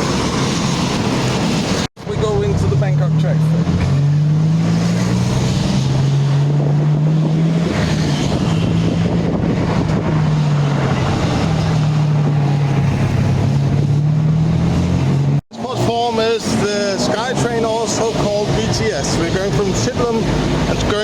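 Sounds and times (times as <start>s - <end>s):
road and wind noise: 0.0s - 21.0s
tuk-tuk engine humming: 0.0s - 21.0s.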